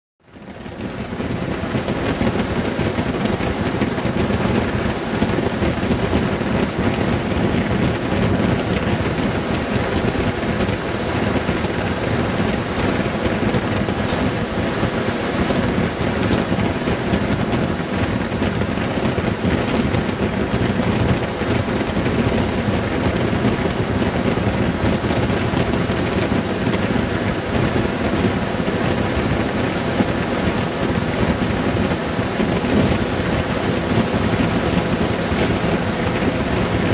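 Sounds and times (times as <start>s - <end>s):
wind rushing over microphone: 0.2s - 36.9s
motorcycle engine drone: 0.4s - 36.9s.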